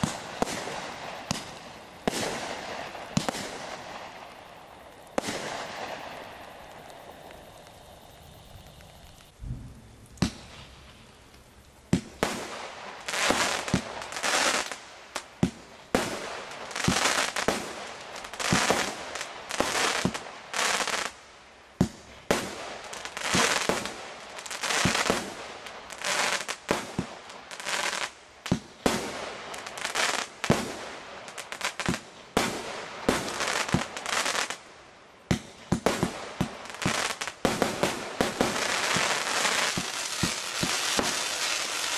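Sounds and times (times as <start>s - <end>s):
fireworks launch pops and bursts: 0.0s - 41.9s.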